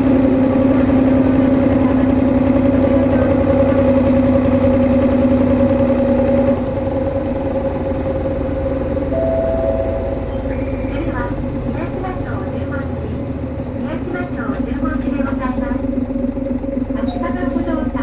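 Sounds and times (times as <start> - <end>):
bus engine droning: 0.0 - 18.0.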